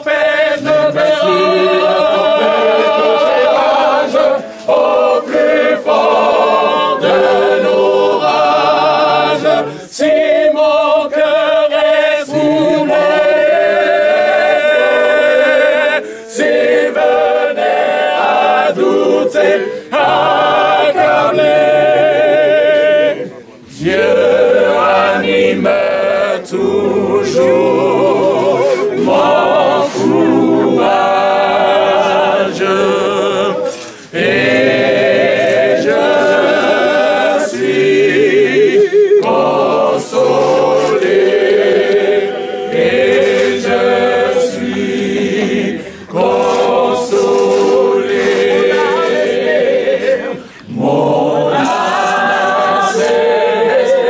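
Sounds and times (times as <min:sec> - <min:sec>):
crowd singing a hymn: 0:00.0 - 0:54.0.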